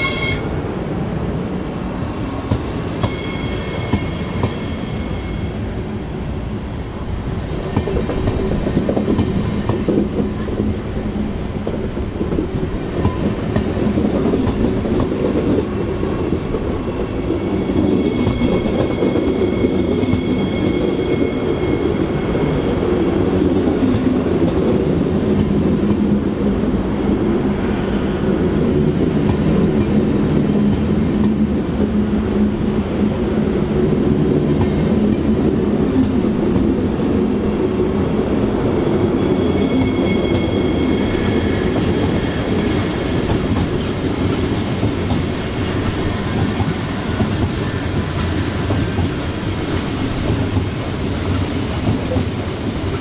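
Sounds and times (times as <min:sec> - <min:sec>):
train rolling rumble: 0:00.0 - 0:53.0.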